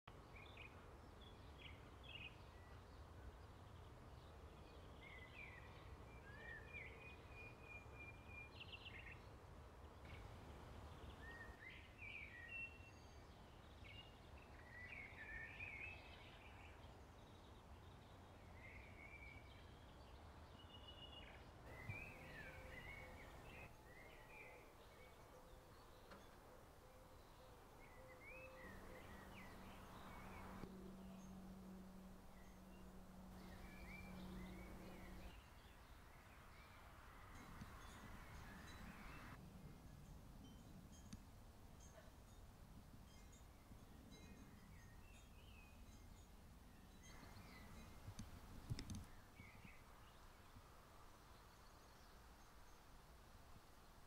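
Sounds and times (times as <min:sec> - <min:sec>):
faint birdsong: 0:00.1 - 0:54.0.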